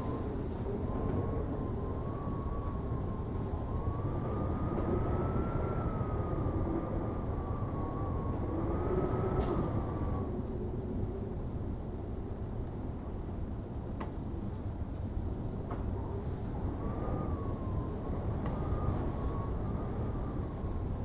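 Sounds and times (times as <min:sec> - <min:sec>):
thin wind whistle: 0:00.0 - 0:13.6, 0:14.7 - 0:21.0
blizzard wind rumbling: 0:00.0 - 0:21.0.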